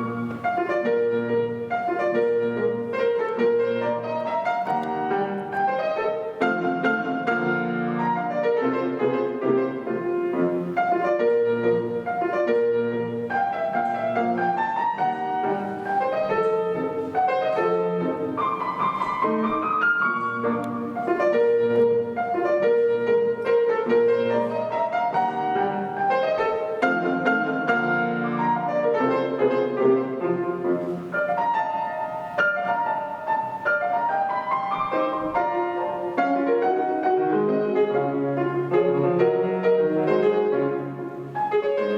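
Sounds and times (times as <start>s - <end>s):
solo classical piano: 0.0s - 41.9s.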